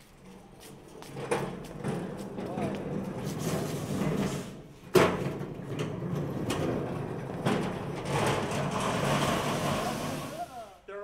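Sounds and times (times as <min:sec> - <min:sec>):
cart rattling over concrete: 0:00.1 - 0:10.5.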